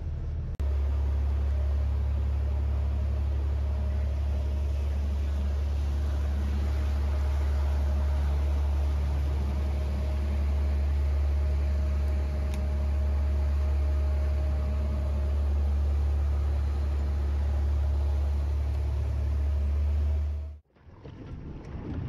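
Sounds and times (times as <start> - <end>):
boat engine droning: 0.0 - 21.2
wind: 0.0 - 22.0.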